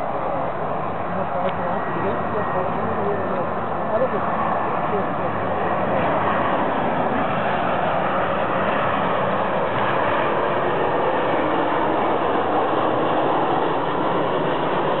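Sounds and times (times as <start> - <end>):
jet airliner flying low: 0.0 - 15.0.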